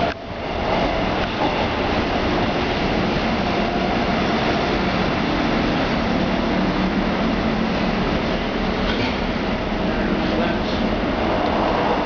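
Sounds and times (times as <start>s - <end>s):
metro train running: 0.0s - 12.0s.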